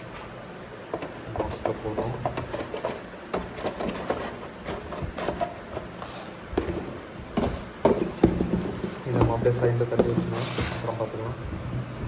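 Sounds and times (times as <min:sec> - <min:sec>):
cardboard rustling: 0:00.0 - 0:11.1.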